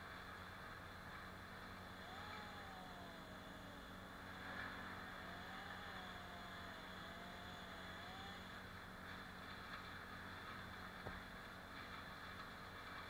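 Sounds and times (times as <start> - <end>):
faint engine hum: 0.0 - 13.0
thin whine: 0.0 - 13.0.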